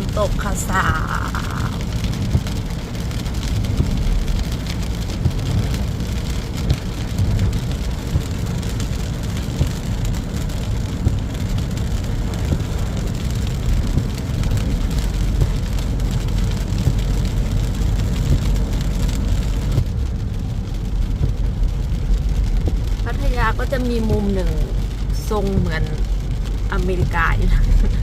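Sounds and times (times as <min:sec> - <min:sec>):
rain hissing on a car: 0:00.0 - 0:28.0
raindrop ticks: 0:00.0 - 0:28.0
road and engine rumble: 0:00.0 - 0:28.0.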